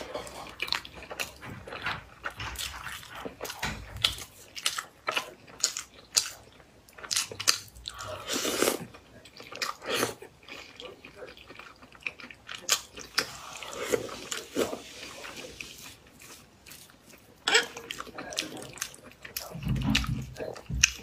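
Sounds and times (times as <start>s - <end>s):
biting and chewing food: 0.0s - 21.0s.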